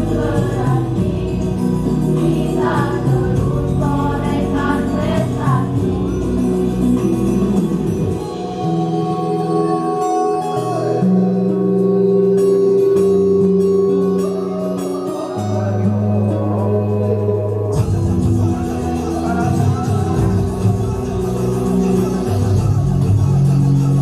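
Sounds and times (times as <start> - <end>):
music with long held chords: 0.0 - 24.0
rhythmic accompaniment: 0.0 - 24.0.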